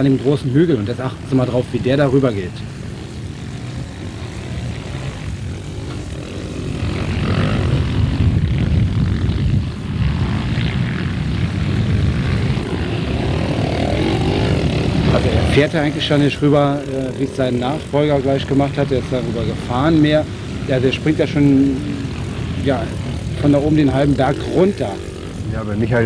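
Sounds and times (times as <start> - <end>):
motorcycle engine buzzing: 0.0 - 26.0.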